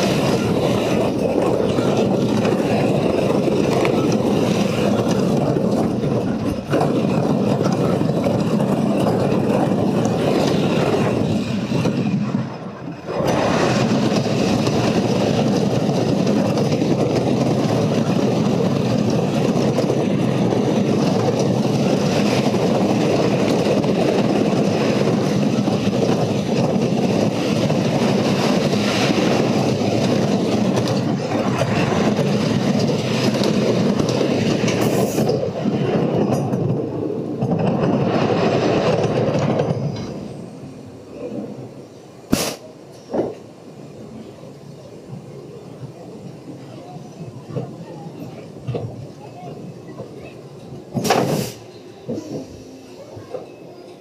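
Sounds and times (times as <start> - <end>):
roller coaster rumbling: 0.0 - 54.0.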